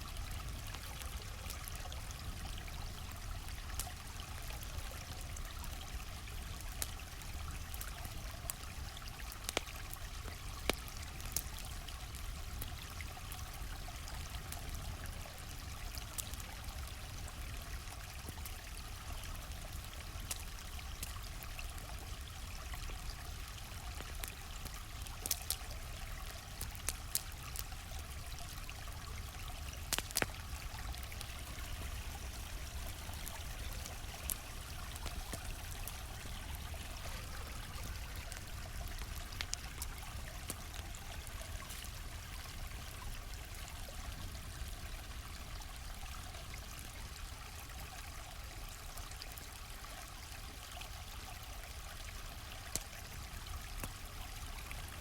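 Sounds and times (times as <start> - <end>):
campfire crackling and popping: 0.0 - 48.0, 48.8 - 55.0
stream flowing over rocks: 0.0 - 55.0.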